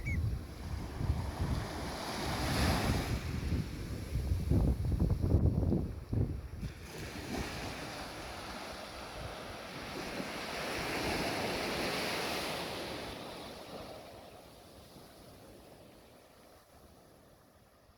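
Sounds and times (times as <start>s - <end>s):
surf washing onto beach: 0.0s - 5.0s, 6.0s - 17.5s.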